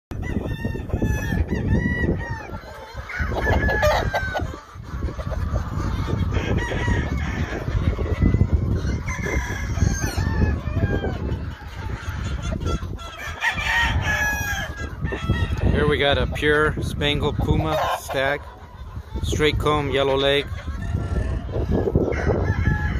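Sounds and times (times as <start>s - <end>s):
roosters crowing and clucking: 0.1s - 22.9s.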